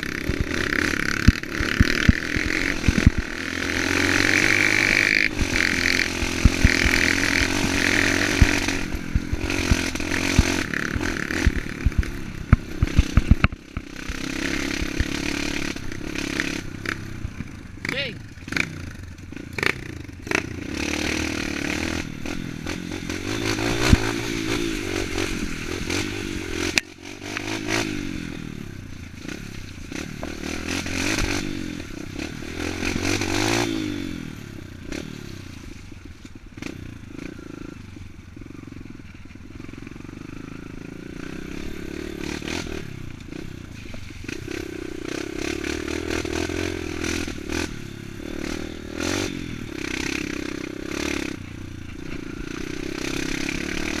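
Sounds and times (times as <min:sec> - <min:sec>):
dirt bike engine revving: 0:00.0 - 0:35.8, 0:36.5 - 0:54.0.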